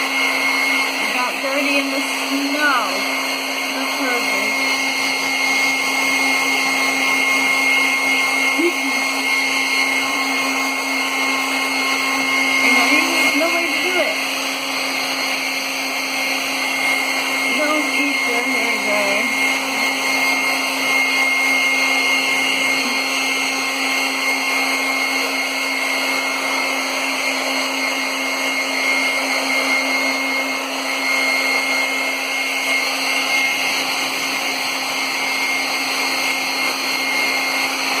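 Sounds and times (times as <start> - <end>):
hair dryer running: 0.0 - 38.0.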